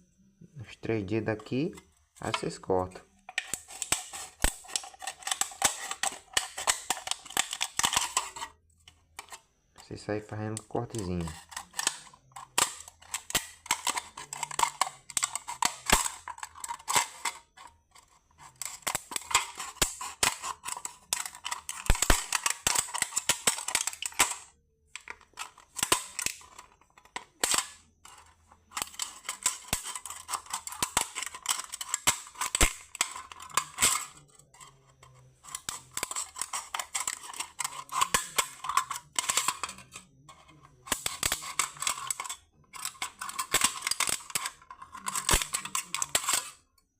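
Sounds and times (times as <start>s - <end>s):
scissors cutting a metal can: 3.3s - 8.5s, 10.5s - 46.6s.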